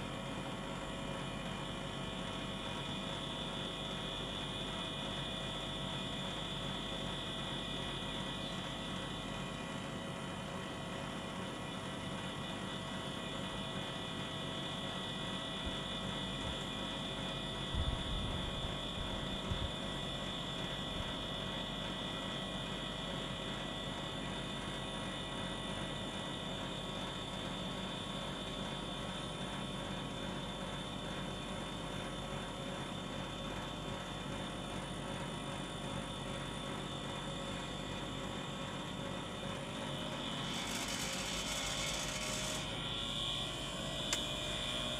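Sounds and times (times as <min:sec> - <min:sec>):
air conditioner unit whirring: 0:00.0 - 0:44.9.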